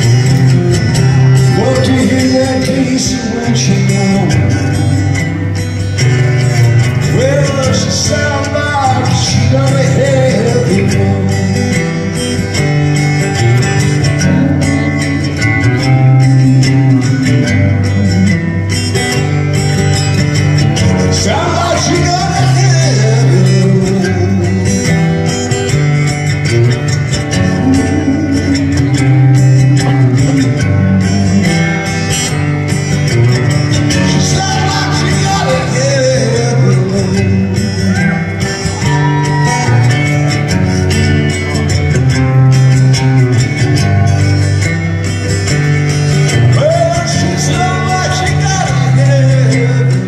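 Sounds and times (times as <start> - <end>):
man singing: 0.0 - 6.1, 6.9 - 12.6, 13.8 - 19.3, 20.2 - 25.8, 27.0 - 32.9, 33.6 - 41.4, 46.1 - 50.0
acoustic guitar picked and strummed: 0.0 - 50.0.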